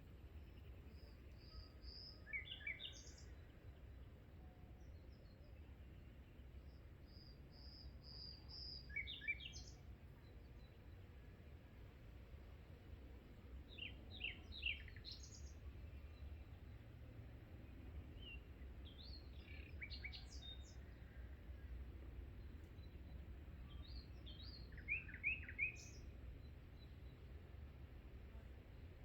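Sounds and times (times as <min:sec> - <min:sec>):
small birds chirping: 0:00.1 - 0:03.9, 0:05.2 - 0:11.0, 0:13.5 - 0:27.4.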